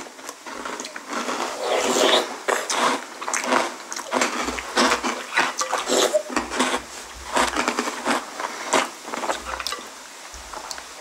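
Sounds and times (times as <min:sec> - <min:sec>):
people crunching and chewing: 0:00.0 - 0:11.0.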